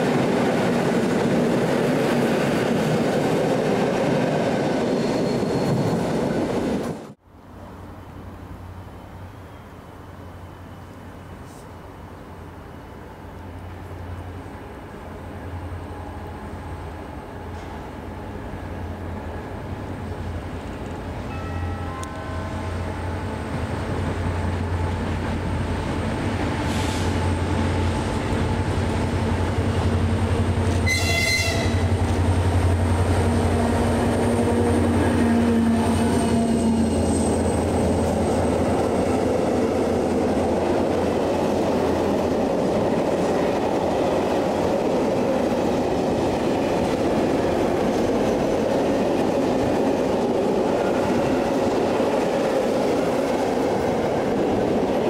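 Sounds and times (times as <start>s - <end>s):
locomotive drone: 0.0s - 55.0s.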